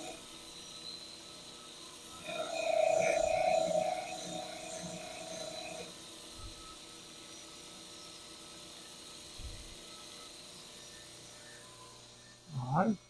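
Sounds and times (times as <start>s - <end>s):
power tool whining: 0.0s - 12.9s.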